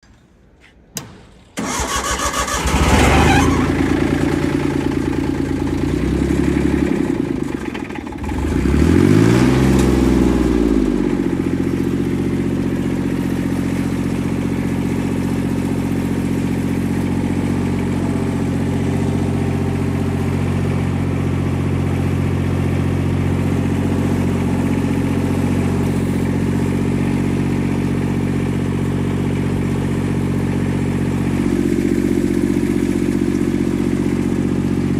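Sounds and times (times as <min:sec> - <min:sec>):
diesel engine cranking and idling: 0:01.0 - 0:34.9.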